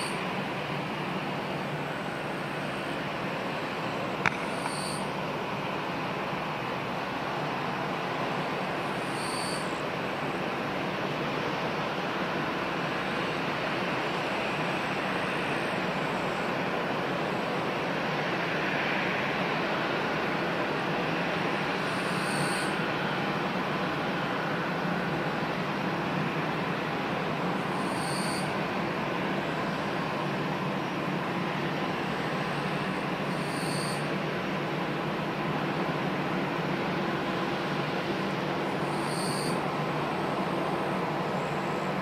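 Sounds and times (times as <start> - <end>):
jet engines idling: 0.0 - 42.0.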